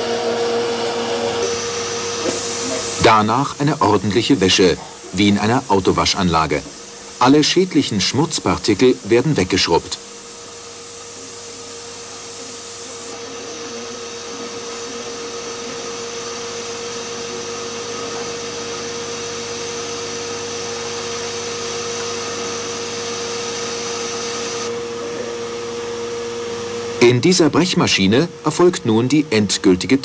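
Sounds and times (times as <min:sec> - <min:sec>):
scrubbing machine whirring: 0:00.0 - 0:30.0.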